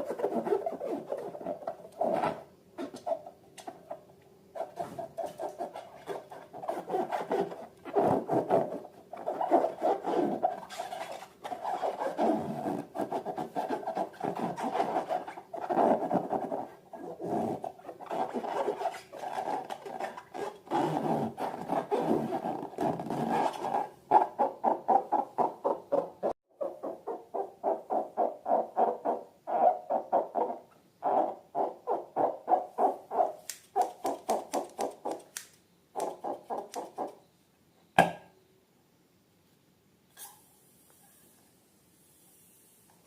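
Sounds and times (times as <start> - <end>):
rubber balloons squeaking: 0.0 - 35.3, 36.0 - 37.2.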